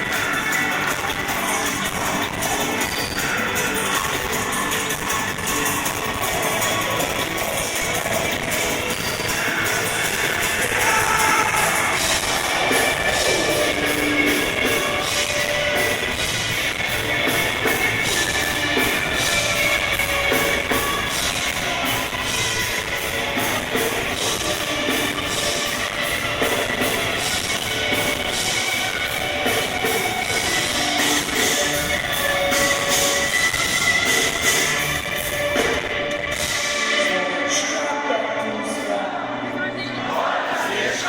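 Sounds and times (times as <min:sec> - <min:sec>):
drum kit with cymbal hits: 0:00.0 - 0:39.0
distorted electric guitars: 0:00.0 - 0:39.6.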